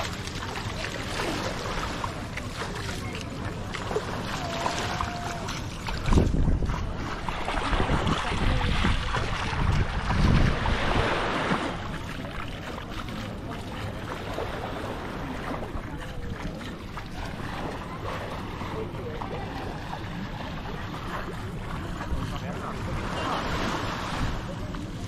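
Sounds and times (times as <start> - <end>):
small waves lapping at shore: 0.0 - 25.0
wind buffeting microphone: 4.5 - 24.8.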